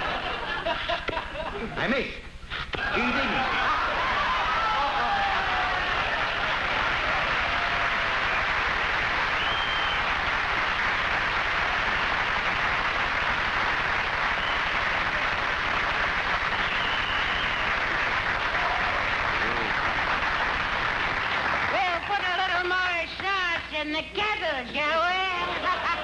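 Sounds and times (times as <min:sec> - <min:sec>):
audience applauding: 0:02.7 - 0:23.6.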